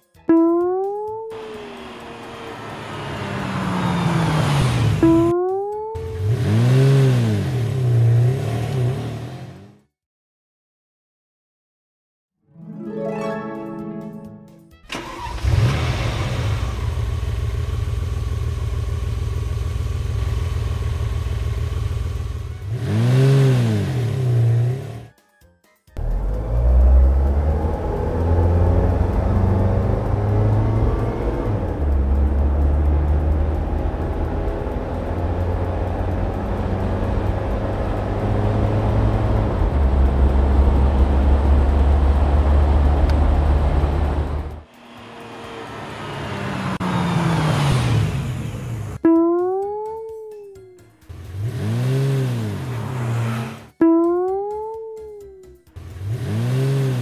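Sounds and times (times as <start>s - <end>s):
vehicle engine running and revving: 1.1s - 9.9s, 15.1s - 25.1s, 26.0s - 49.1s, 51.0s - 57.0s.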